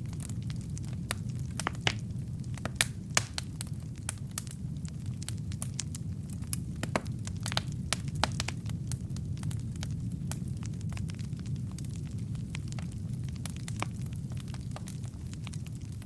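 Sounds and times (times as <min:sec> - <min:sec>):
logs crackling and popping: 0:00.0 - 0:16.0
low rumble of flame: 0:00.0 - 0:16.0.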